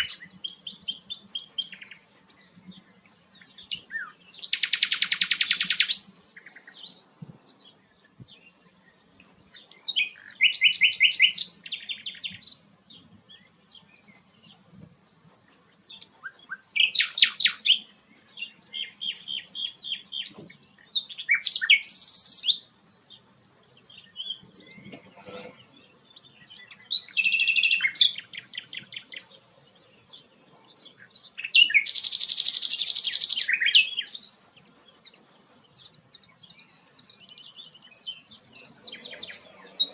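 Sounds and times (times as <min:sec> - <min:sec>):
soft bird twittering: 0:00.0 - 0:39.9.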